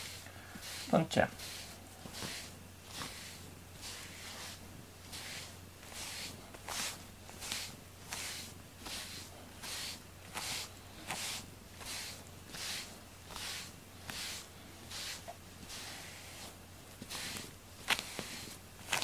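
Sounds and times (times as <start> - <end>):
glove brushing cat fur: 0.0 - 19.0.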